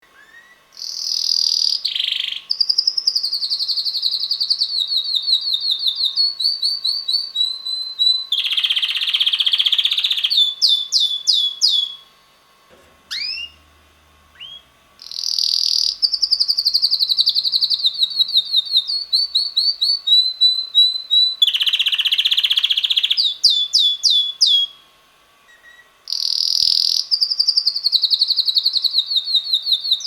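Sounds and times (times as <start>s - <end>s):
rising bird chirps: 0.0s - 12.1s, 13.1s - 13.6s, 14.3s - 24.8s, 25.5s - 30.0s
canary singing trills: 0.0s - 12.2s, 13.1s - 13.7s, 14.3s - 24.8s, 25.4s - 30.0s.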